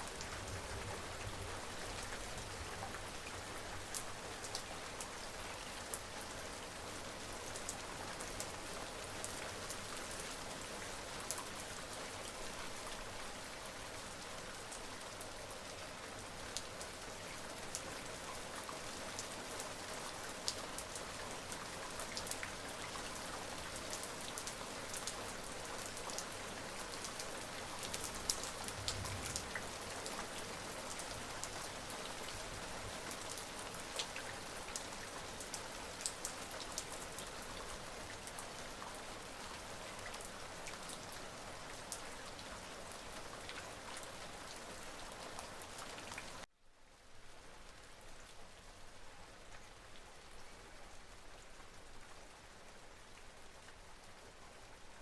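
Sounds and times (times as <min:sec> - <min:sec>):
raindrops ticking on a surface: 0:00.0 - 0:52.0
steady rain hiss: 0:00.0 - 0:55.0.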